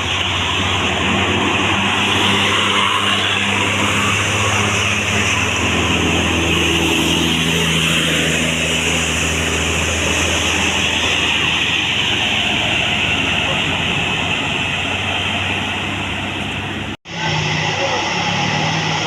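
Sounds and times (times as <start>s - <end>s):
bus engine running: 0.0s - 19.0s
road noise rushing: 0.0s - 19.0s.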